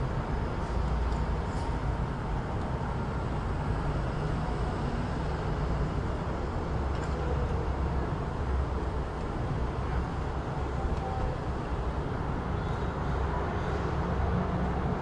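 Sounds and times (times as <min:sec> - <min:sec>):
traffic rumble: 0:00.0 - 0:15.0
urban hum: 0:00.0 - 0:15.0.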